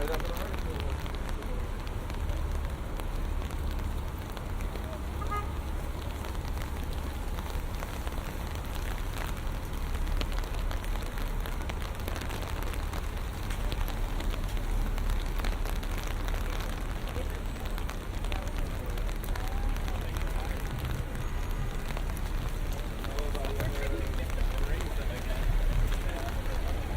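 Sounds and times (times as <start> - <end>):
low city rumble: 0.0 - 26.9
rain on hard surfaces: 0.0 - 26.9.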